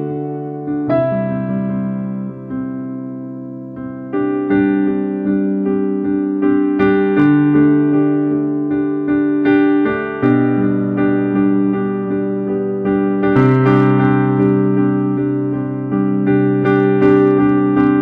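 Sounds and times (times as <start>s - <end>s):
piano-like chords: 0.0s - 18.0s.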